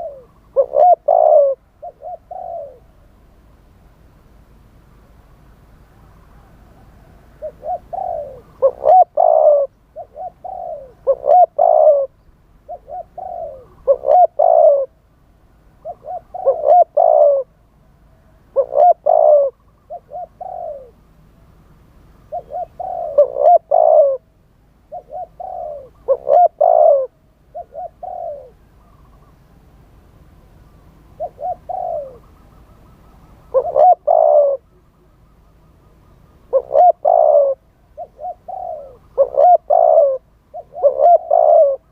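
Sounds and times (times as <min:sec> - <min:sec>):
dove cooing: 0:00.0 - 0:03.0, 0:05.9 - 0:15.0, 0:15.8 - 0:21.0, 0:22.2 - 0:29.4, 0:31.1 - 0:41.9.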